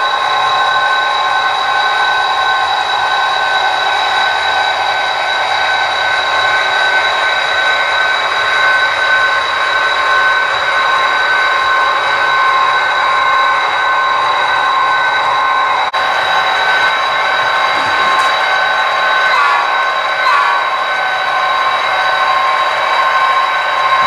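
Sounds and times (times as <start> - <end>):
constant high hum: 0.0 - 24.0
model train rolling on track: 0.0 - 24.0.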